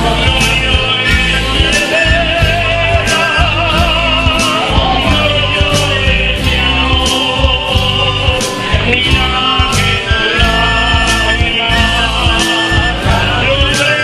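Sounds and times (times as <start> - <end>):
rock song with singing: 0.0 - 14.0.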